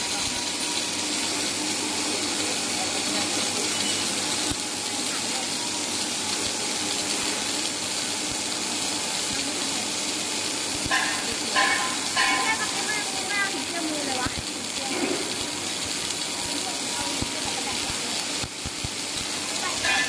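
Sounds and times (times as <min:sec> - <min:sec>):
welding arc hissing: 0:00.0 - 0:20.0.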